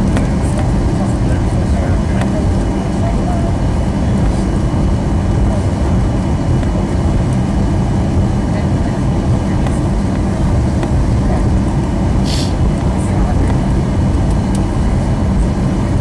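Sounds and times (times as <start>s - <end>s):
jet plane taxiing rumble: 0.0s - 16.0s.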